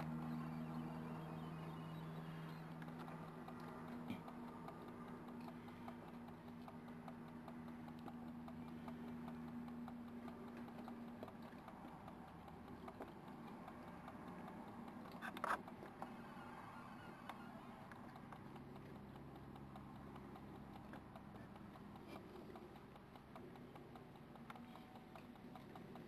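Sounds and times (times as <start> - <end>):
foxes crunching food: 0.0 - 26.0
steady low hum: 0.0 - 26.0.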